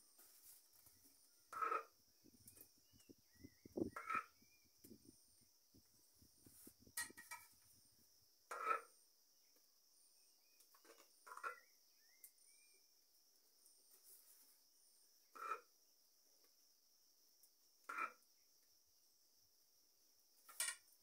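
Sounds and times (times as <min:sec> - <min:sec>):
insects chirring: 0:00.1 - 0:21.0.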